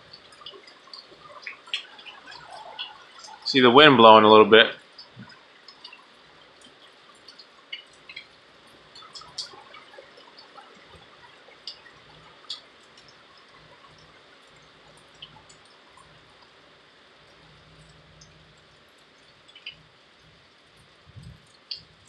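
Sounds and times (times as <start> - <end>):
hiss of wind and rain: 0.0 - 22.0
raindrops dripping and ticking: 0.0 - 22.0.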